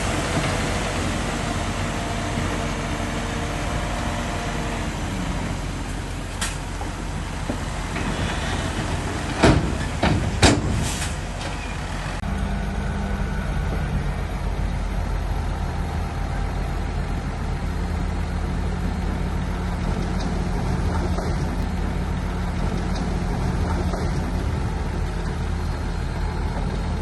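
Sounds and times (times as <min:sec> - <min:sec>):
diesel machinery running: 0:00.0 - 0:27.0.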